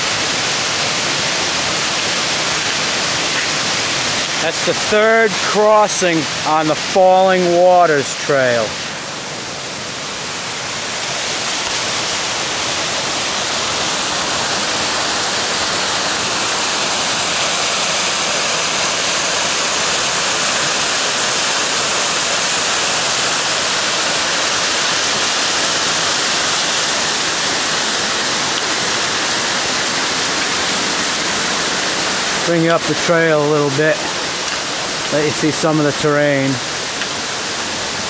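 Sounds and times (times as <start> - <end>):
waterfall rushing over rocks: 0.0 - 38.0.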